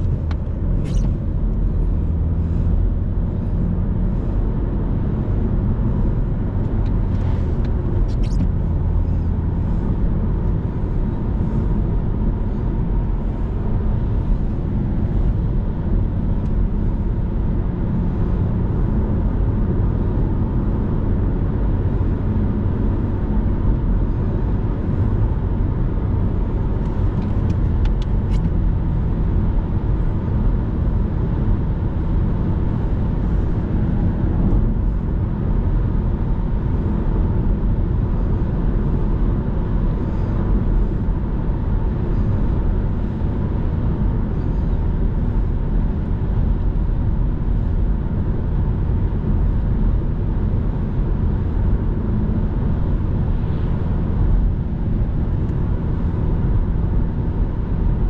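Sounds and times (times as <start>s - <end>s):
car engine running: 0.0s - 58.0s
tyre and road noise drone: 0.0s - 58.0s.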